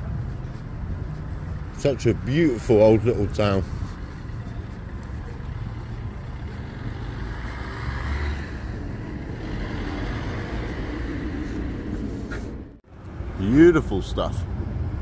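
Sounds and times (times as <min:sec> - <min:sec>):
car passing: 0:00.0 - 0:15.0
traffic hum: 0:00.0 - 0:15.0.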